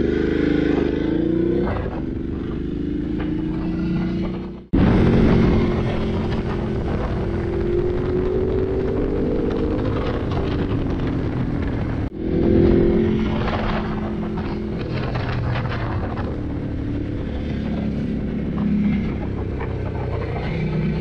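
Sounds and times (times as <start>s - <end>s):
motorcycle engine accelerating: 0.0s - 21.0s
wind noise: 0.0s - 21.0s.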